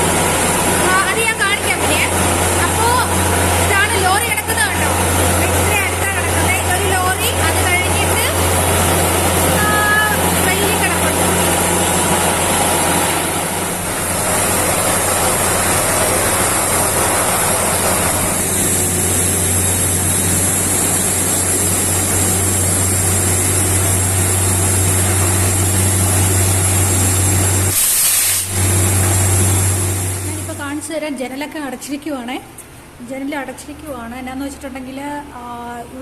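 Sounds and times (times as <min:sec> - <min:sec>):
drilling rig low hum and hiss: 0:00.0 - 0:30.8.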